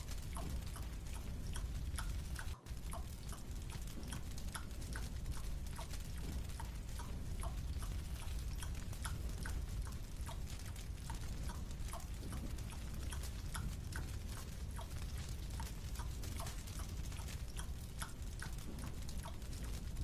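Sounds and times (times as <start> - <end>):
wet chewing clicks and smacks: 0.0 - 20.0.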